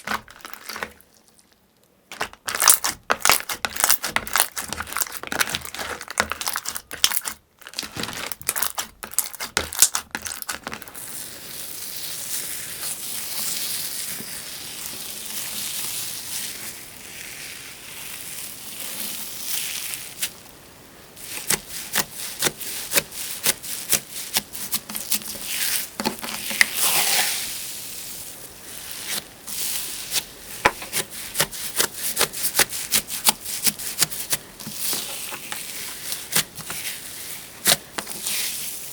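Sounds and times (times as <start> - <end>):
slime crackling and popping: 0.0 - 20.6, 21.2 - 38.9.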